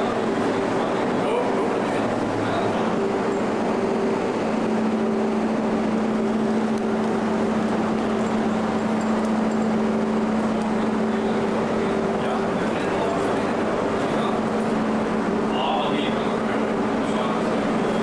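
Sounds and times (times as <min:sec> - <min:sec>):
ferry engines rumbling: 0:00.0 - 0:18.0
steady hum: 0:00.0 - 0:18.0.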